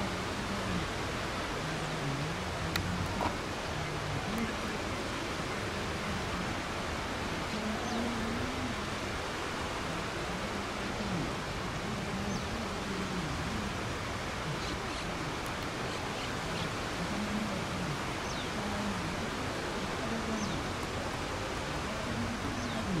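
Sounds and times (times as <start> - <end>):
rushing wind: 0.0 - 23.0
sea water noise: 0.0 - 23.0.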